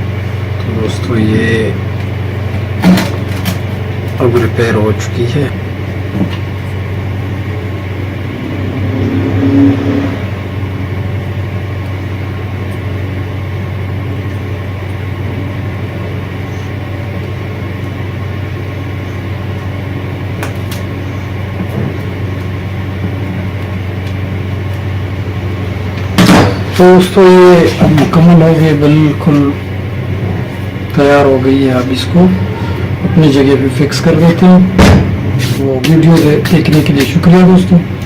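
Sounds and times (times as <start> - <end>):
exhaust fan humming: 0.0 - 38.0.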